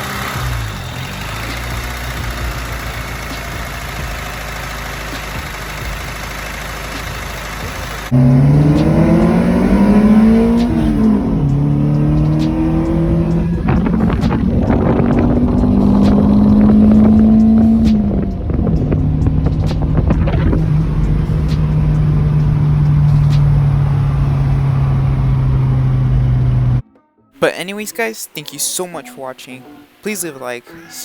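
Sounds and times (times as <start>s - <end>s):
car engine running and revving: 0.0s - 26.8s.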